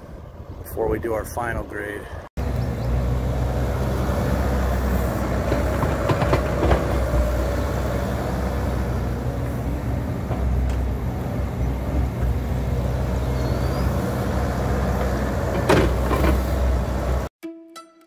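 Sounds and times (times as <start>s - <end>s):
excavator diesel engine running: 2.4s - 17.3s.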